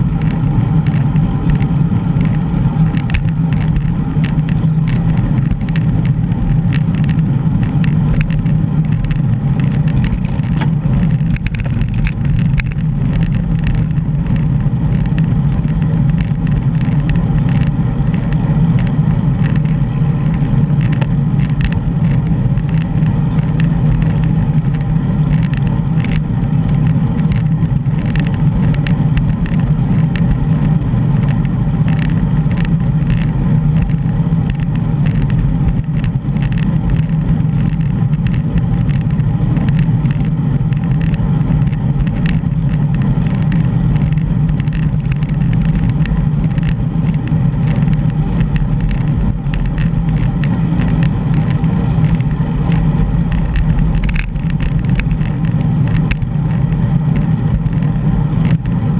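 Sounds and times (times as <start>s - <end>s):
small clicks and rattles: 0.0s - 58.9s
wind and road noise: 0.0s - 58.9s.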